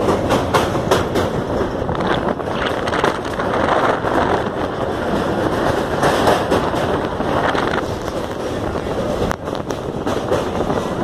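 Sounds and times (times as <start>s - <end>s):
train wheels rattling on bridge: 0.0s - 11.0s
wind buffeting microphone: 0.0s - 11.0s.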